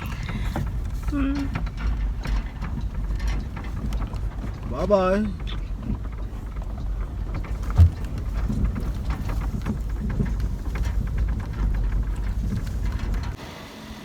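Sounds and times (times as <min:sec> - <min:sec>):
vehicle rumbling on rough road: 0:00.0 - 0:14.0.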